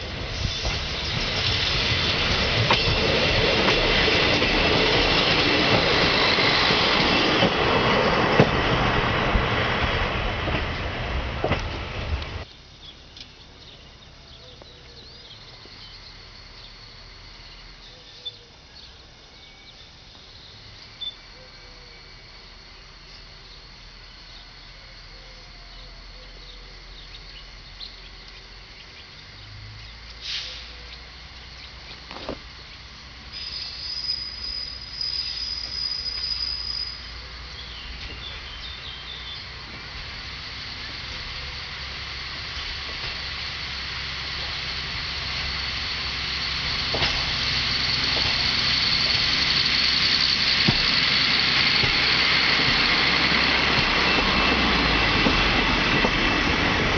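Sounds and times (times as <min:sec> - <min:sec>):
insects chirring: 0:00.0 - 0:56.9
train noise: 0:00.0 - 0:56.9.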